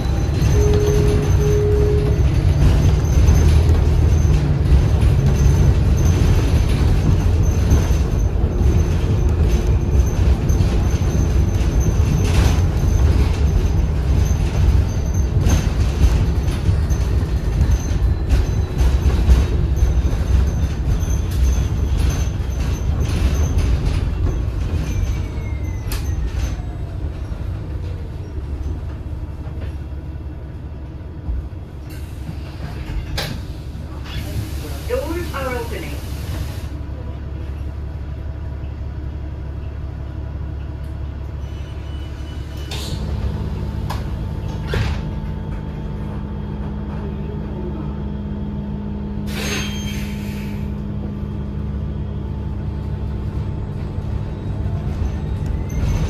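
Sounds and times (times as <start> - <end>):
bus body rattling: 0.0 - 56.0
bus drivetrain rumble: 0.0 - 56.0.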